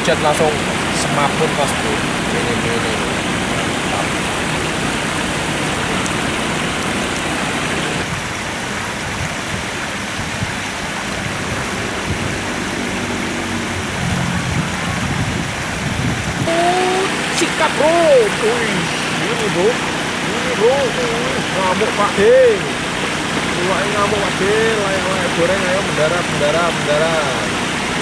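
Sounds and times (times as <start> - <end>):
water rushing from outlet: 0.0 - 28.0.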